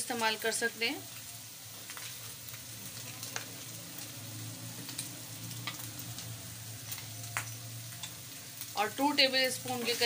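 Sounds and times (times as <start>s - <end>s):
chicken and onions sizzling: 0.0s - 10.0s.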